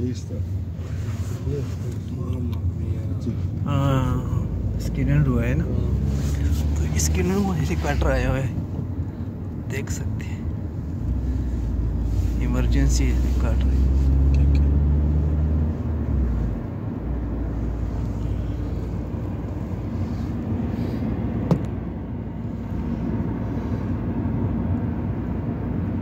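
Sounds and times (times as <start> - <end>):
road and engine noise in car: 0.0 - 26.0.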